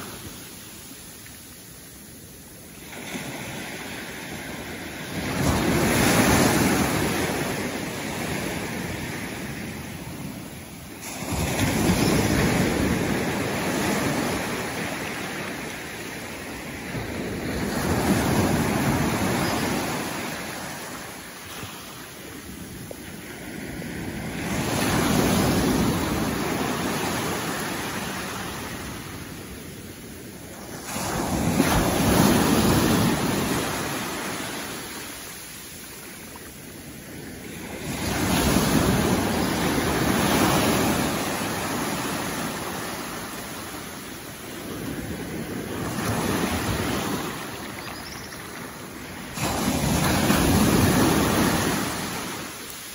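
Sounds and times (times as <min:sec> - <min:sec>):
small waves washing up a beach: 0:00.0 - 0:52.9.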